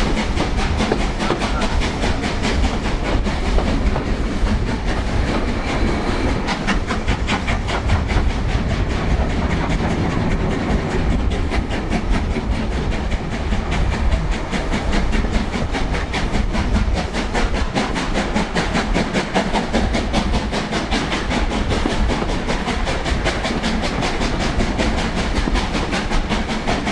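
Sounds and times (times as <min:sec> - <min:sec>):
steam locomotive exhaust beating: 0:00.0 - 0:26.9
train rumbling on rails: 0:00.0 - 0:26.9.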